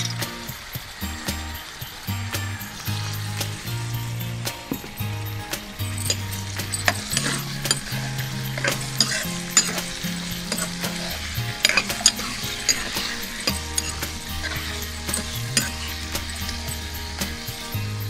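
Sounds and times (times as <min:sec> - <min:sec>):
steel spoon scraping a pan: 0:00.0 - 0:17.8
vegetables sizzling in oil: 0:00.0 - 0:18.0.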